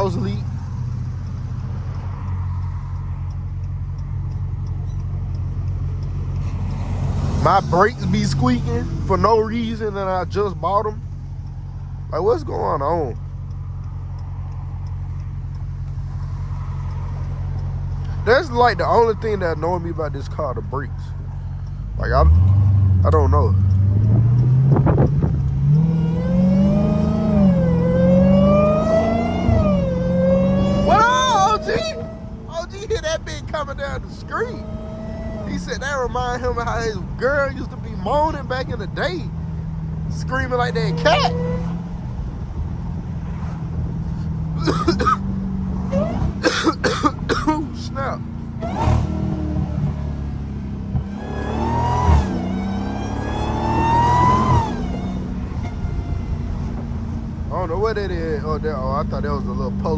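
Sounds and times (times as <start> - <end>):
car exhaust revving through gears: 0.0 - 59.9
supercharger whine: 0.0 - 59.9.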